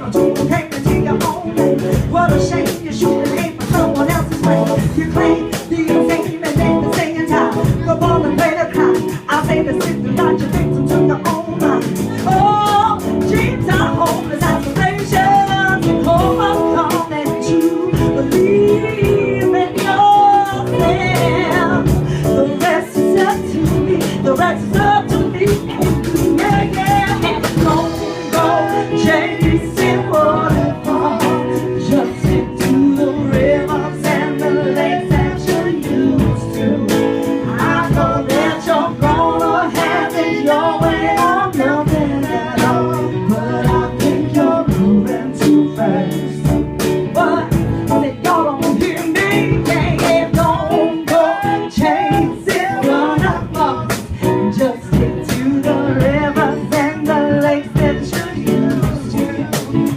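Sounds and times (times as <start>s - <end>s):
person singing: 0.0s - 59.9s.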